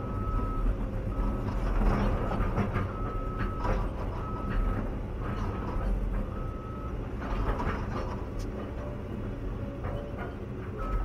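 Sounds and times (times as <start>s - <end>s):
excavator engine and hydraulics: 0.0s - 11.0s.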